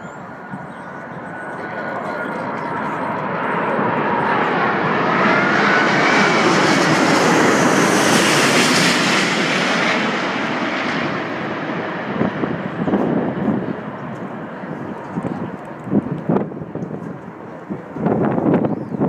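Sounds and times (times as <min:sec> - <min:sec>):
jet plane passing overhead: 0:00.0 - 0:19.0.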